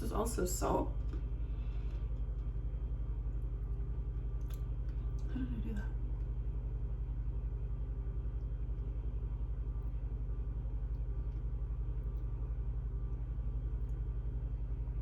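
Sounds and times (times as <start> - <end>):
low pulsing rumbling hum: 0.0 - 15.0.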